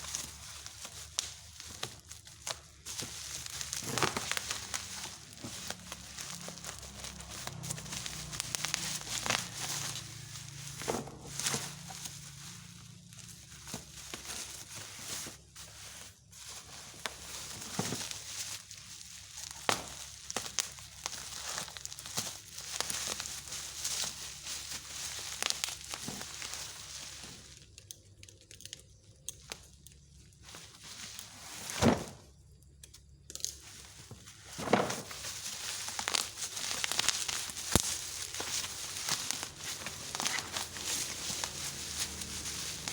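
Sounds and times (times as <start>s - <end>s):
packaging crinkling and rustling: 0.0s - 42.9s.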